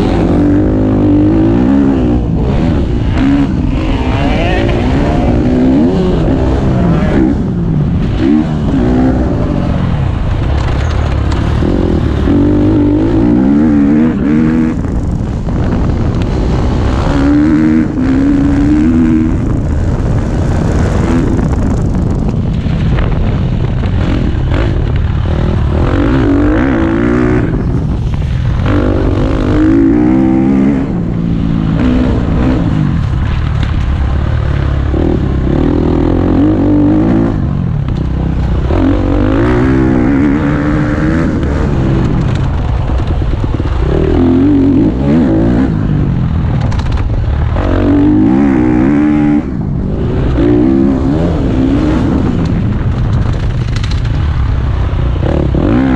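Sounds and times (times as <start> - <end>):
motocross engine revving: 0.0 - 22.0, 23.8 - 55.9.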